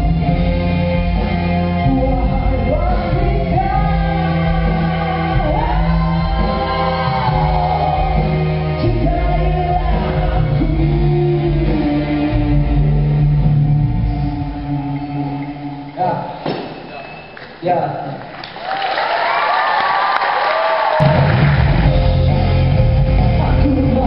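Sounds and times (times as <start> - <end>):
band accompaniment with bass line: 0.0 - 17.6, 20.9 - 24.0.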